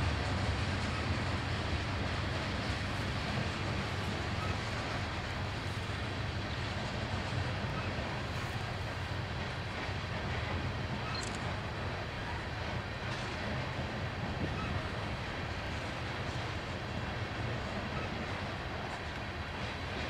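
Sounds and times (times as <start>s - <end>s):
diesel locomotives pulling away: 0.0s - 20.0s
train wheels rumbling on rail: 0.0s - 20.0s.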